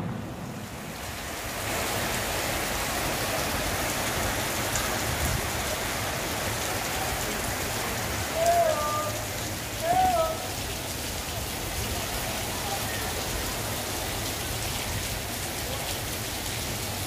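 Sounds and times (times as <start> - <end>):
rain on a flat roof: 0.0 - 17.0.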